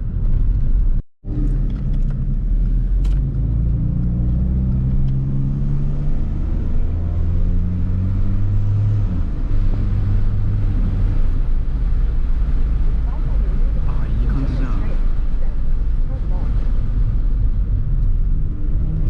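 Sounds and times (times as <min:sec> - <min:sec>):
car engine droning while driving: 0:00.0 - 0:19.0.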